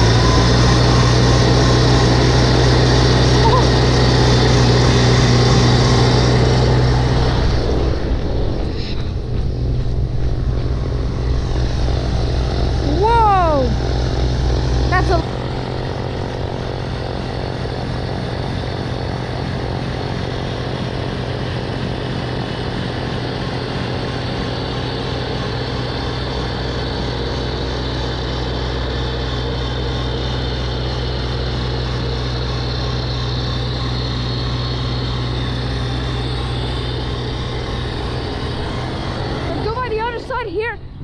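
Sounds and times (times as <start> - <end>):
diesel tractor engine running: 0.0 - 41.0.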